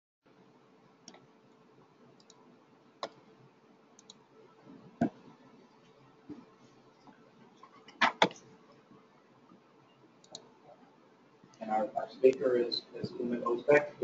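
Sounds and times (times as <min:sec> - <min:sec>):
faint steady hum: 0:00.3 - 0:14.0.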